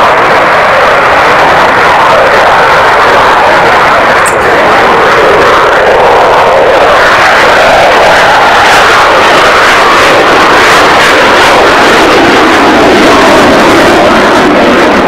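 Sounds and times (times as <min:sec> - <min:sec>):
jet aircraft flying overhead: 0:00.0 - 0:15.0.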